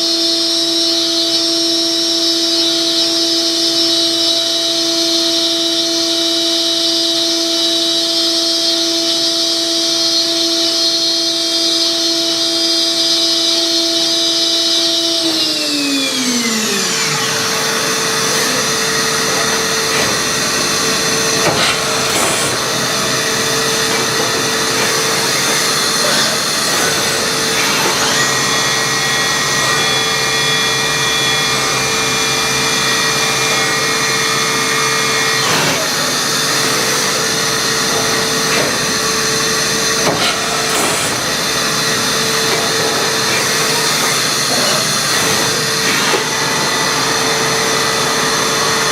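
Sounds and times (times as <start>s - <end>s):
machine hiss and hum: 0.0s - 48.9s.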